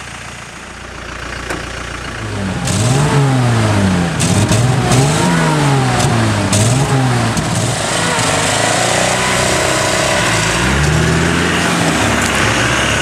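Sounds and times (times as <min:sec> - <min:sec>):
engine revving: 0:02.2 - 0:13.0.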